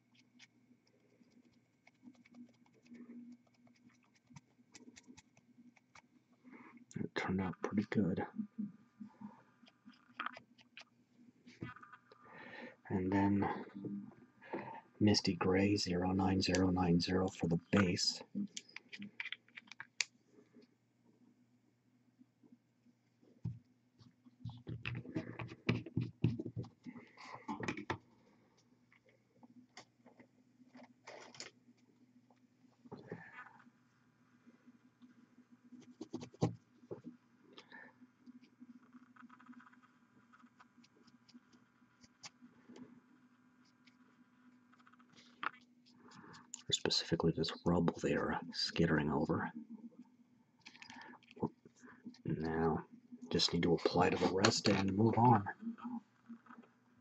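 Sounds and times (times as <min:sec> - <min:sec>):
faint room hum: 0:00.0 - 0:57.0.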